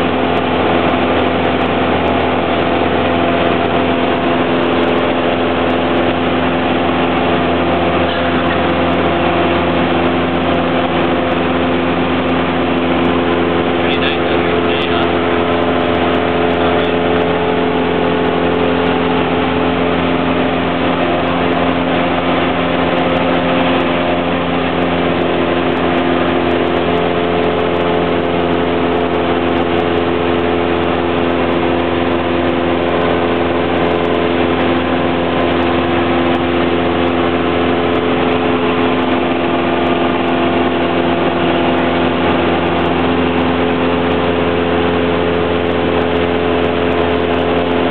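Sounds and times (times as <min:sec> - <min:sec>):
light aircraft engine drone: 0:00.0 - 0:47.9.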